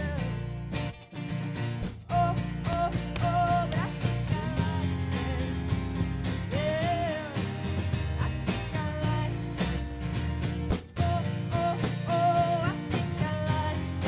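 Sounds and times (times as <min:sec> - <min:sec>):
bending guitar melody line: 0:00.0 - 0:14.0.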